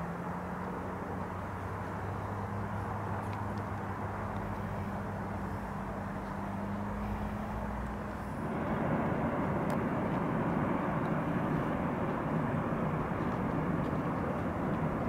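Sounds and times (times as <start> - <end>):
distant freight train rumble: 0.0 - 15.0.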